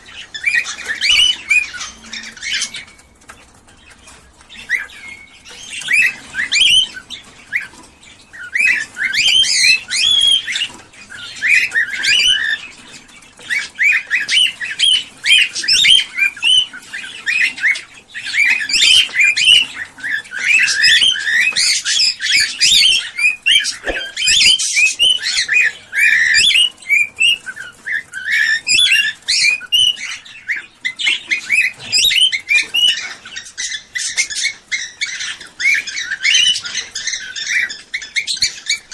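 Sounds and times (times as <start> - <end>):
small birds chirping and chattering: 0.0 - 38.9.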